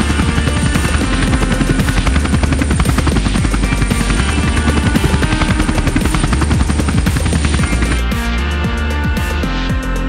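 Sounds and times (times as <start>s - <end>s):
background music: 0.0s - 10.0s
helicopter rotor beating: 0.0s - 10.0s.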